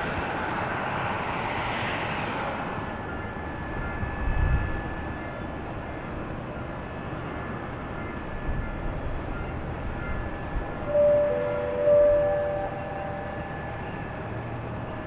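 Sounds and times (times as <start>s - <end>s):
jet engine whine and rushing: 0.0s - 15.0s.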